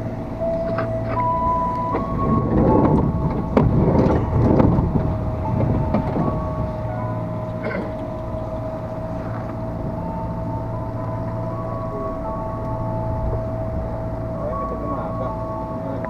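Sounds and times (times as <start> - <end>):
high whine: 0.0 - 16.0
train rumble: 0.0 - 16.0.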